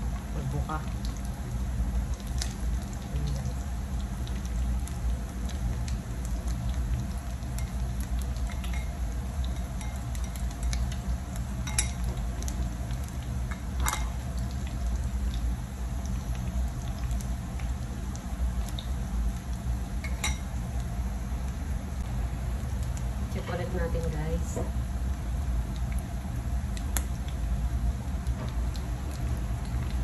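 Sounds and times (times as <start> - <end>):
patties sizzling in a pan: 0.0 - 30.0.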